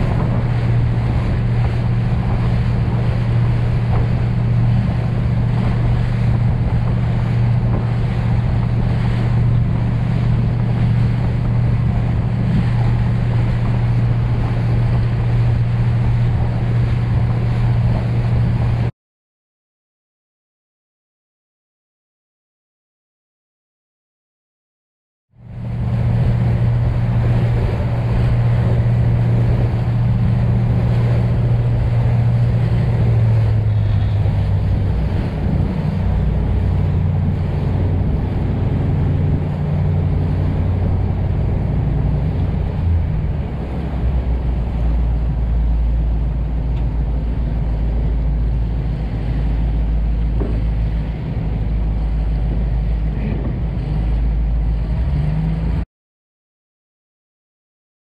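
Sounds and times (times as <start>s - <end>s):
boat engine droning: 0.0s - 18.9s, 25.3s - 55.8s
water rushing past hull: 0.0s - 18.9s, 25.3s - 55.8s
wind buffeting microphone: 0.0s - 18.9s, 25.4s - 55.8s.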